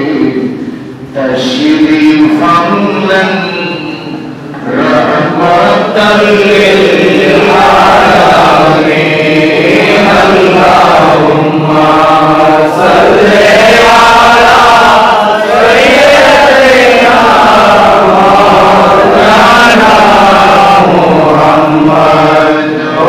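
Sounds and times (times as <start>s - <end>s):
man chanting into a microphone: 0.0s - 23.0s.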